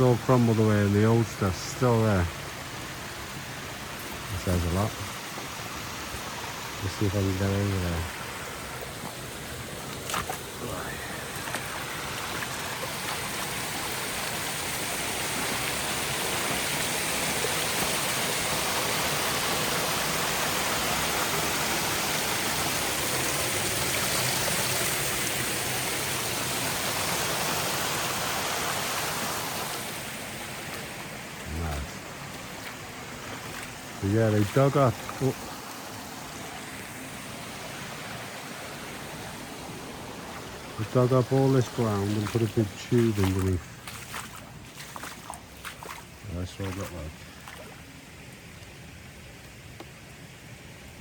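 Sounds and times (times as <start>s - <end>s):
river water rushing: 0.0s - 50.7s.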